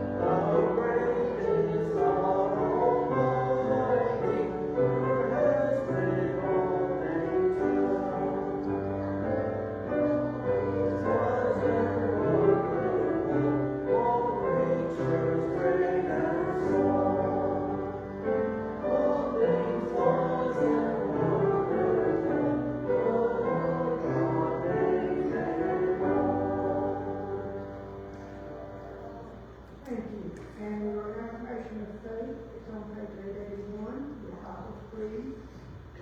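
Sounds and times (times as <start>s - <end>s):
choir singing a hymn: 0.0s - 29.5s
keyboard accompaniment: 0.0s - 29.8s.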